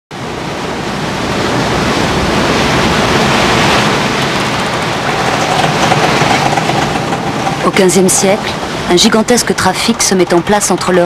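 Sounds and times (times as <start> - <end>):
sea waves surf: 0.1 - 11.0.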